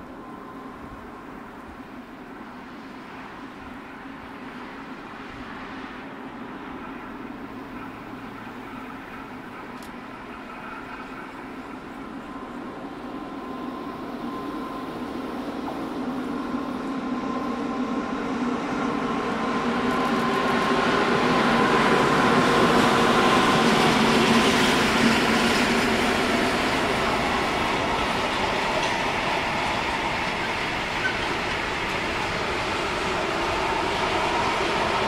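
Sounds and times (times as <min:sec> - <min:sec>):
freight train passing: 0:00.0 - 0:35.0.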